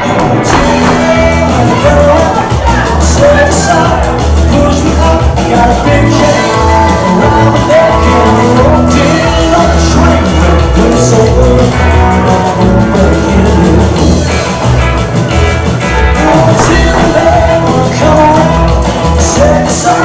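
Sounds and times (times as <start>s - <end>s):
man singing: 0.0s - 14.5s, 16.0s - 20.0s
electric guitar: 0.0s - 20.0s
upright double bass: 0.0s - 20.0s.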